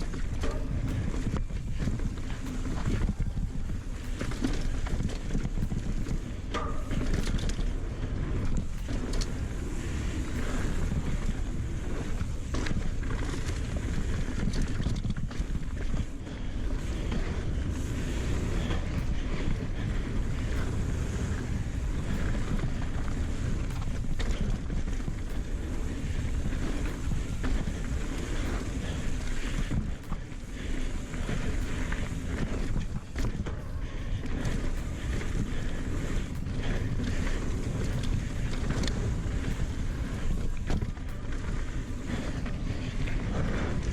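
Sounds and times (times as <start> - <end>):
bike clicks and knocks: 0.0 - 43.9
bike tyre noise: 0.0 - 43.9
wind buffeting microphone: 0.0 - 43.9.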